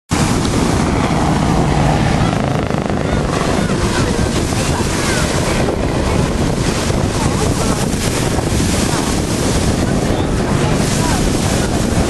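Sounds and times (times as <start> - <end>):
surf: 0.1 - 12.0
wind buffeting microphone: 0.1 - 12.0.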